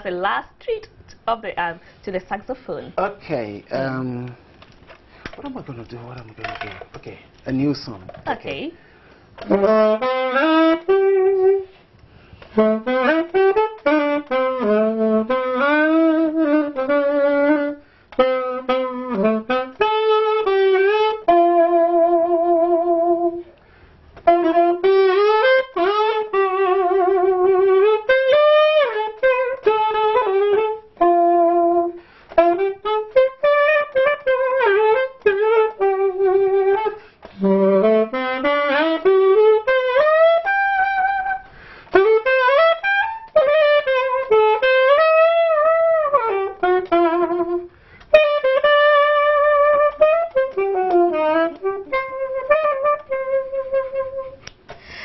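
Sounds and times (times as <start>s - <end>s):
solo saxophone melody: 1.7s - 55.0s.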